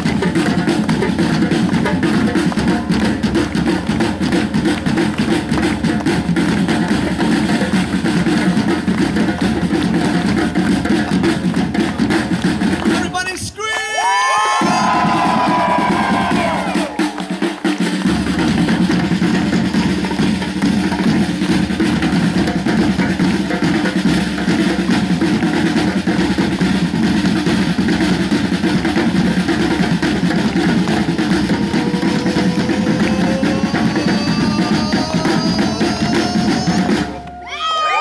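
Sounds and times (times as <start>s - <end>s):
drum-heavy music: 0.0s - 38.0s.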